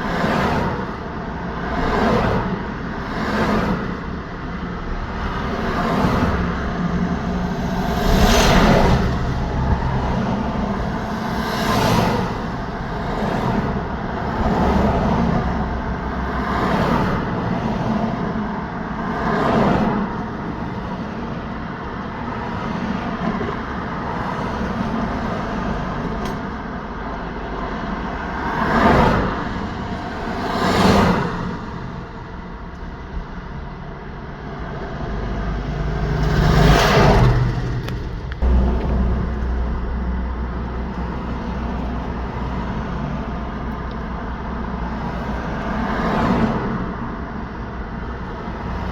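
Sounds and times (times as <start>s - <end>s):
low engine hum: 0.0s - 48.9s
vehicles passing: 0.0s - 48.9s.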